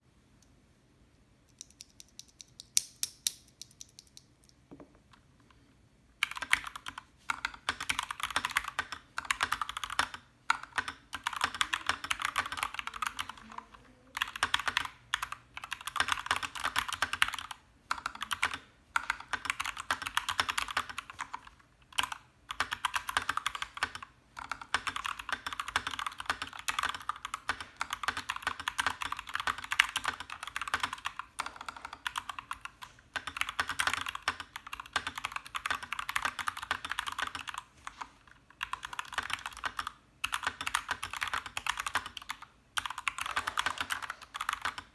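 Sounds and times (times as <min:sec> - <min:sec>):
mechanical keyboard typing: 0:06.2 - 0:38.0, 0:38.6 - 0:44.9.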